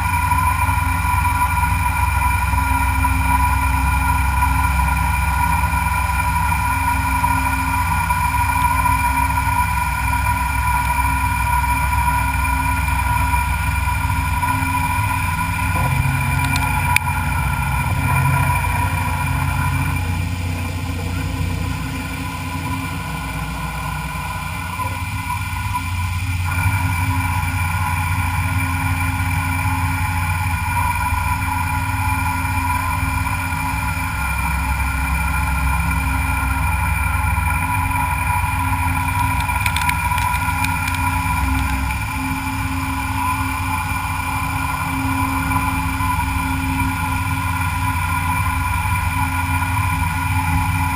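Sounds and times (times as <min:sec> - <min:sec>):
machine whining tones: 0:00.0 - 0:50.9
machine tool motor hum: 0:00.2 - 0:50.9.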